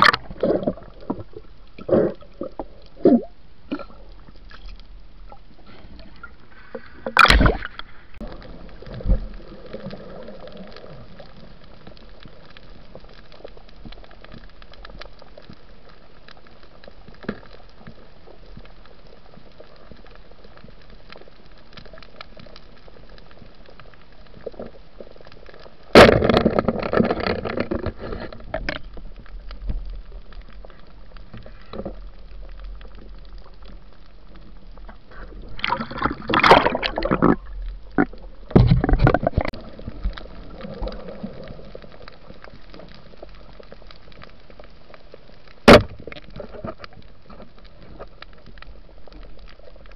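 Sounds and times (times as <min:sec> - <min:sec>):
steady low hiss: 0:00.0 - 0:49.9
water sloshing and gurgling: 0:00.0 - 0:49.9.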